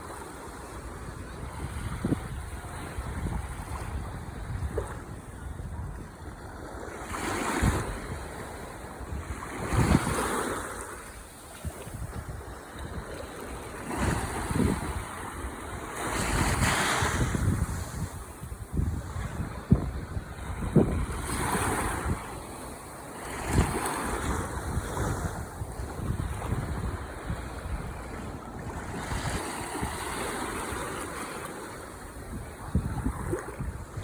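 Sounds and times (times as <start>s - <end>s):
wind buffeting microphone: 0.6s - 34.0s
ocean waves breaking: 4.6s - 34.0s.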